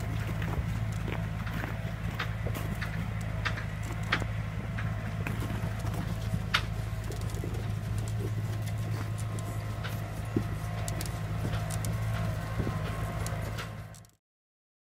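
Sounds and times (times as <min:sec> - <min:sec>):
tractor diesel engine idling: 0:00.0 - 0:14.1.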